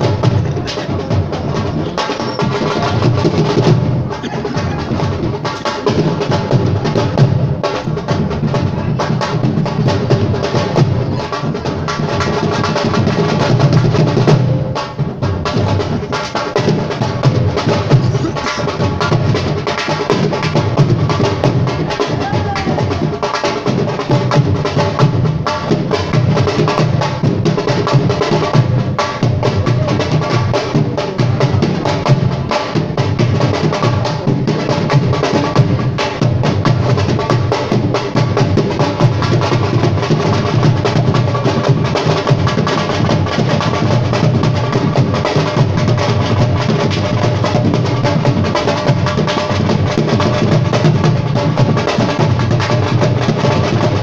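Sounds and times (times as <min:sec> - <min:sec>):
drums in fast rhythm: 0:00.0 - 0:54.0.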